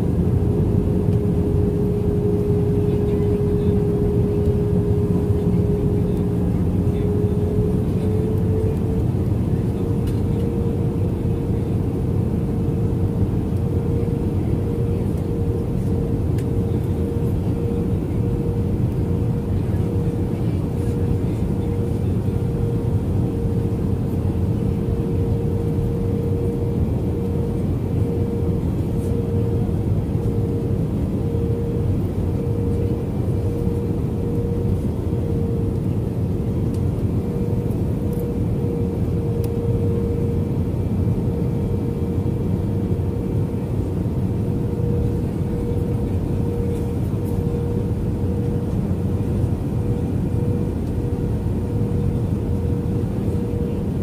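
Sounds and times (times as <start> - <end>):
droning hum: 0.0 - 54.0
jet engines rumbling: 0.0 - 54.0.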